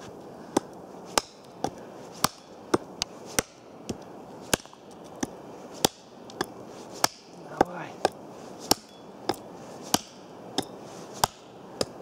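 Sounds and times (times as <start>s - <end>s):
hatchet chopping branch: 0.5s - 12.0s.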